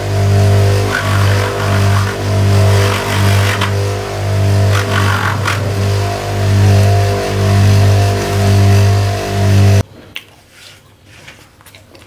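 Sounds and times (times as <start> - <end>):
bench grinder motor humming: 0.0 - 9.8
plastic rasping on buffing wheel: 0.1 - 9.8.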